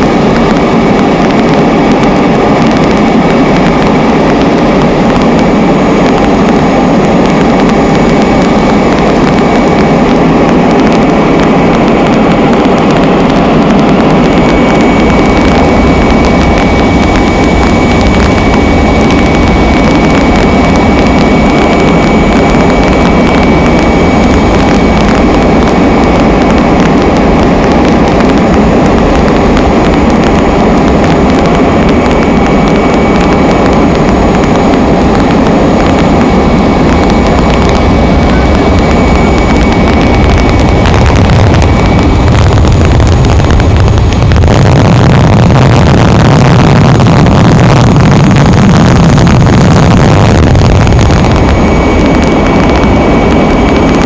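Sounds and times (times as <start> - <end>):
aircraft engine noise: 0.0 - 54.0
thin high whine: 0.0 - 54.0.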